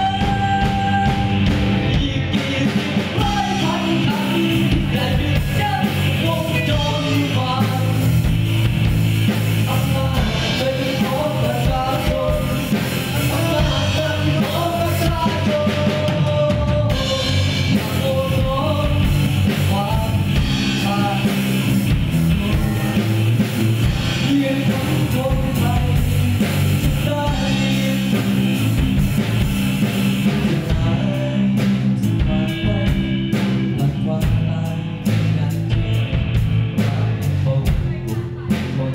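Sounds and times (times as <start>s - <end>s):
man singing: 0.0s - 29.0s, 30.2s - 38.9s
bass guitar: 0.0s - 38.9s
drum kit: 0.0s - 38.9s
electric guitar: 0.0s - 38.9s.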